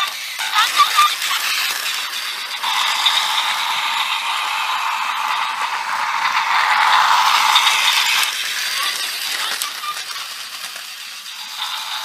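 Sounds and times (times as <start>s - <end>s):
toy train whirring on plastic track: 0.0s - 12.0s.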